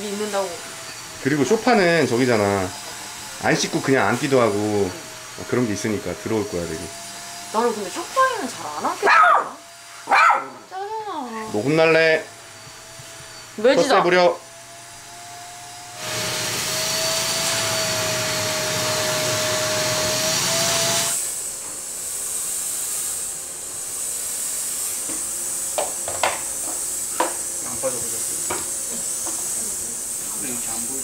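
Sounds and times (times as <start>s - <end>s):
fogging machine hissing: 0.0s - 31.0s
motor whine: 0.0s - 31.0s.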